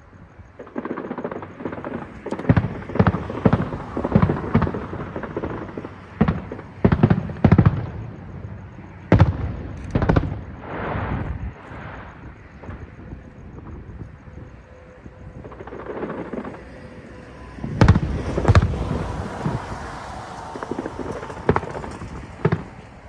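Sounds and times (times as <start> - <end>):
rushing crackle of fireworks: 0.0 - 23.0
fireworks bursting with sharp bangs: 0.4 - 13.9, 15.4 - 23.0.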